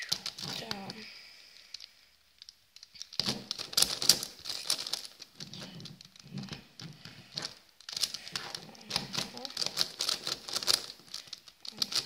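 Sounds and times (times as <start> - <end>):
puzzle cube clicking: 0.0 - 12.0.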